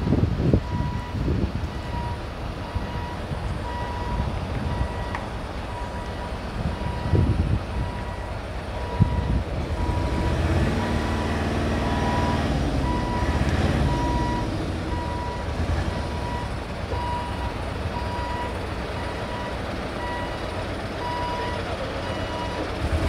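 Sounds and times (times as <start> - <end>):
heavy truck engine running: 0.0 - 23.0
reversing alarm beeping: 0.6 - 22.8.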